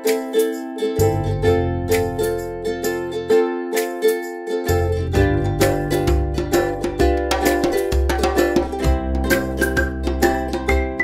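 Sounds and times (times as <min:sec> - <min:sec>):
plucked-string tune over beat: 0:00.0 - 0:11.0.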